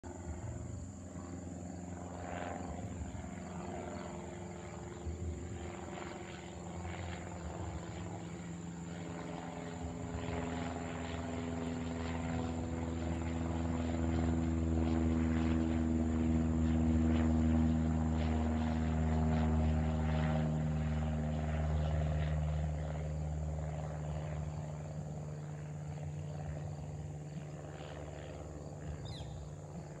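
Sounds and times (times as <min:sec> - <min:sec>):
propeller plane passing overhead: 0:00.0 - 0:30.0.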